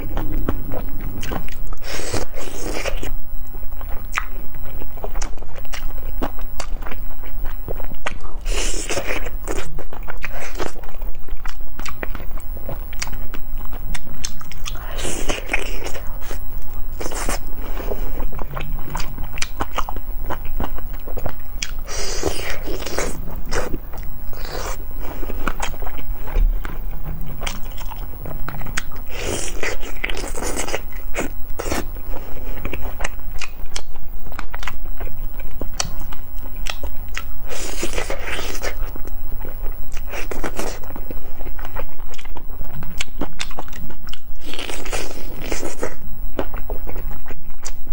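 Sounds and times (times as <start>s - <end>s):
close-miked chewing and biting: 3.8s - 47.9s.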